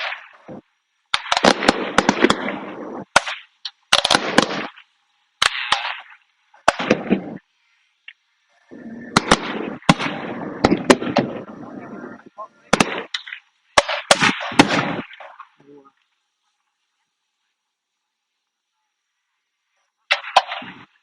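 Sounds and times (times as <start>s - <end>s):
fireworks bangs and crackling: 0.0s - 16.0s, 20.0s - 21.0s.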